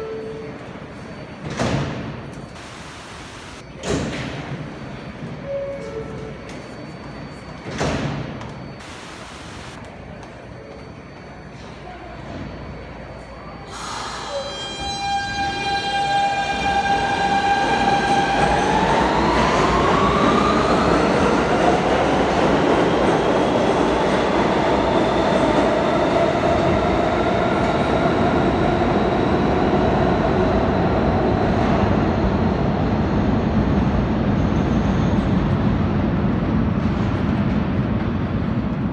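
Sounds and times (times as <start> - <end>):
subway train motors whining: 0.0 - 38.9.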